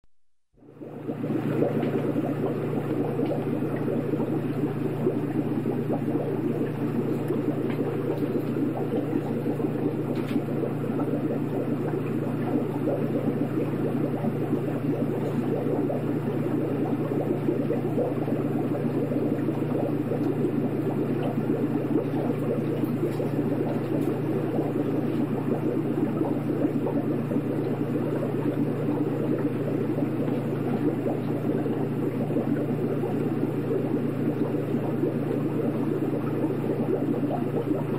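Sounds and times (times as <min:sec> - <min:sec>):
aquarium water bubbling: 0:00.5 - 0:37.9
low hum of tank filter: 0:00.6 - 0:37.9.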